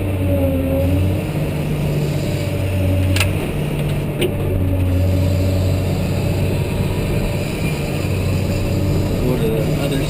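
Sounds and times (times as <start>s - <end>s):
wheel loader diesel engine running: 0.0s - 10.0s.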